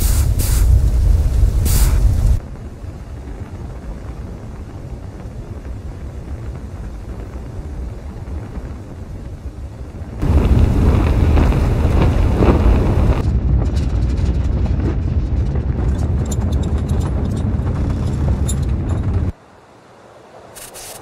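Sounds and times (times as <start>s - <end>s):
deep spacecraft rumble: 0.0s - 19.4s.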